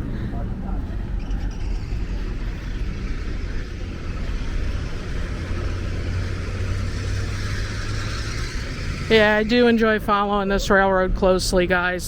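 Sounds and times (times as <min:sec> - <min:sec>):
diesel locomotive engines idling: 0:00.0 - 0:12.0.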